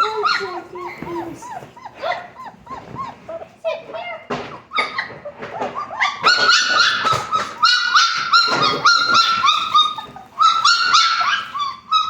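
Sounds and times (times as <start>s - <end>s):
puppies whining and yipping: 0.0s - 12.0s.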